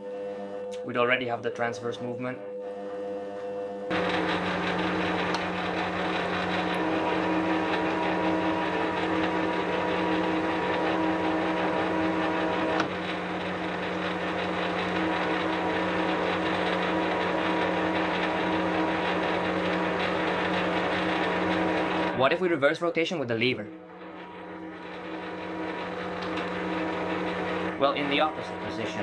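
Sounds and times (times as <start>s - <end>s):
lathe hum and gear whine: 0.0s - 22.6s, 23.7s - 29.0s.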